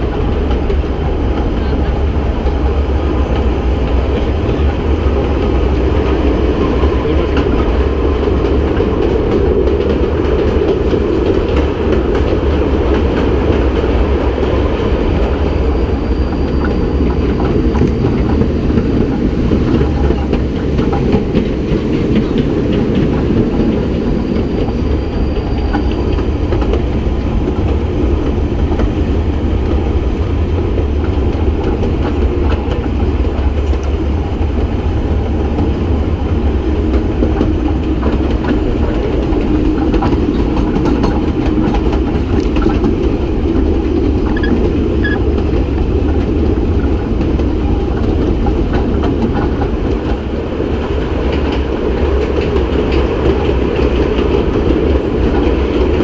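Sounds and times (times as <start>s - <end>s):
rail joints clicking: 0.0s - 56.0s
train wheels rumbling on rails: 0.0s - 56.0s.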